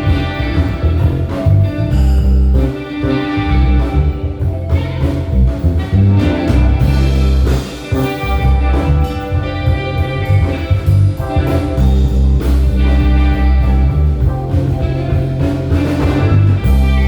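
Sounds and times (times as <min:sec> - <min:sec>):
live jazz band playing: 0:00.0 - 0:17.0.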